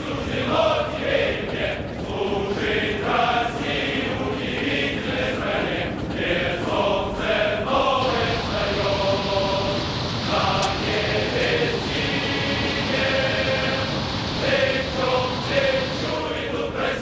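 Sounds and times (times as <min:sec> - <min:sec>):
crowd chanting in unison: 0:00.0 - 0:17.0.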